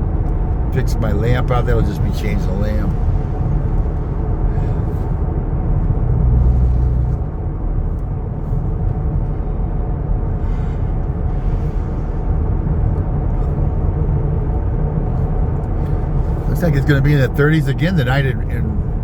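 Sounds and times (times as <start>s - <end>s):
vehicle road and engine rumble: 0.0s - 19.0s.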